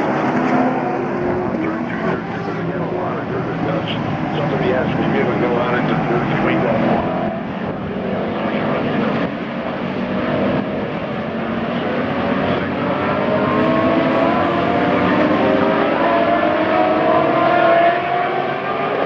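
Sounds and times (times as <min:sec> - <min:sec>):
racing car engines: 0:00.0 - 0:19.0.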